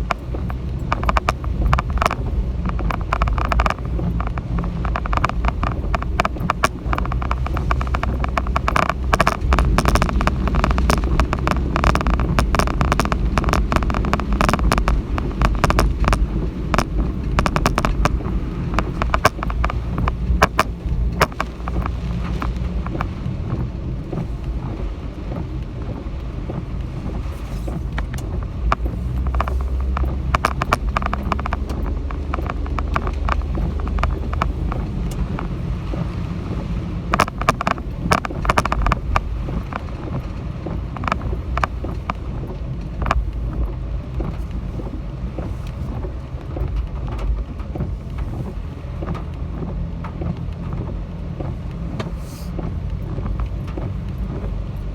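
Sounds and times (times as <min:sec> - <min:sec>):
strong wind buffeting microphone: 0:00.0 - 0:49.7
sharp taps and rattles: 0:00.0 - 0:54.9.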